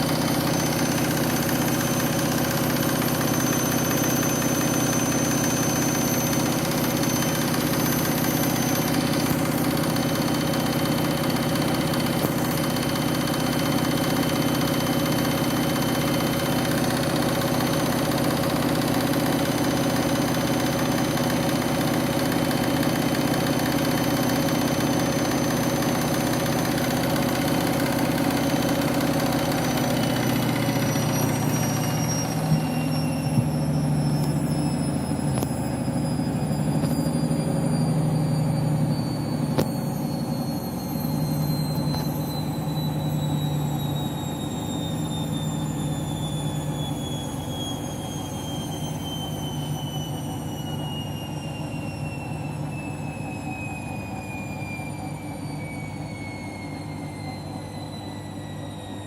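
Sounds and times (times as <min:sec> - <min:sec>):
washing machine spinning: 0:00.0 - 0:59.0
whining tones: 0:00.0 - 0:59.0.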